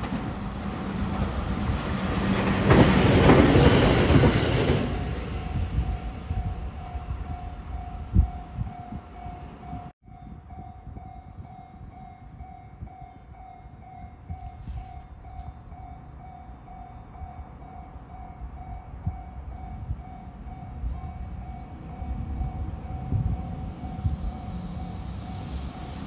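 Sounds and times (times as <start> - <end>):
level-crossing warning bell: 4.9 - 26.0.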